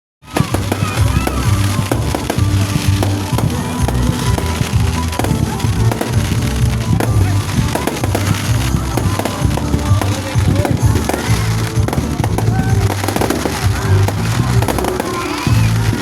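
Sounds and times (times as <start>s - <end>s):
fireworks bangs and crackles: 0.2s - 16.0s
loud music with bass beat: 0.2s - 16.0s.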